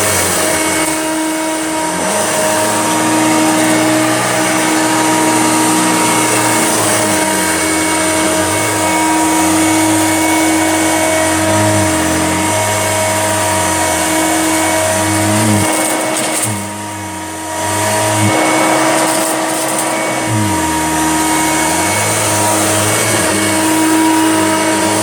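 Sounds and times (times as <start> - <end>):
upright vacuum cleaner running: 0.0 - 25.0.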